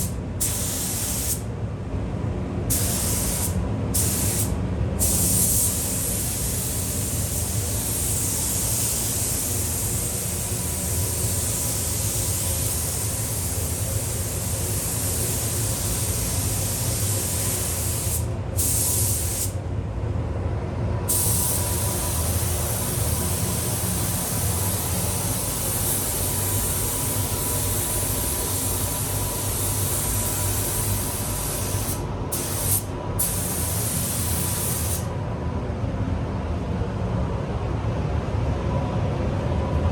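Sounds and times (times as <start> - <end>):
spray gun hissing: 0.0 - 1.4, 2.7 - 19.6, 21.1 - 35.1.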